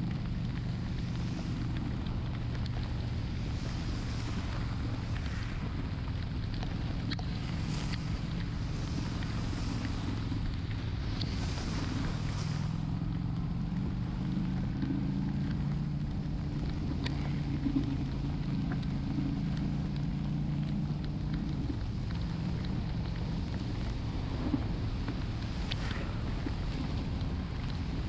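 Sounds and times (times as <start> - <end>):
motorcycle engine running: 0.0 - 28.0
rain: 0.0 - 28.0
wind hiss: 0.0 - 28.0.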